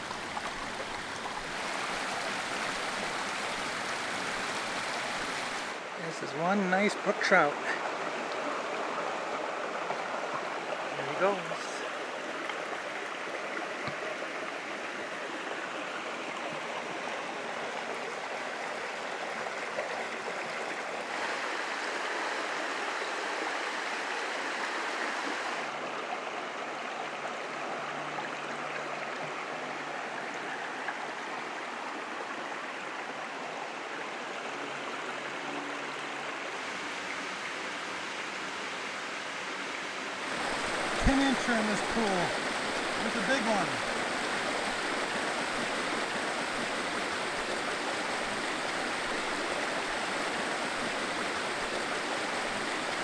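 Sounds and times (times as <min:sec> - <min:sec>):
brook running over stones: 0:00.0 - 0:53.0.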